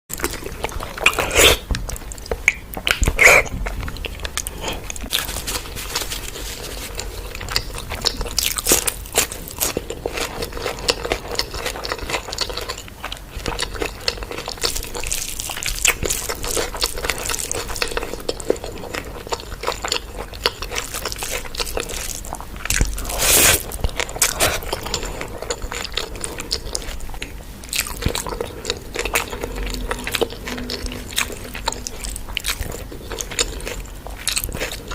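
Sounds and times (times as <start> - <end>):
person chewing and biting food: 0.1 - 34.9
wet crunches of chewing: 0.1 - 34.9.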